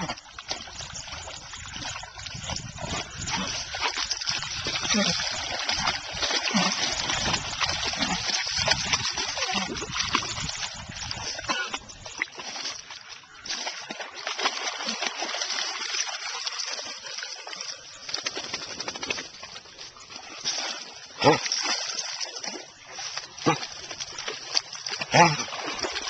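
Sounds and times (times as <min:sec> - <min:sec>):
dogs splashing in muddy water: 0:00.0 - 0:26.0.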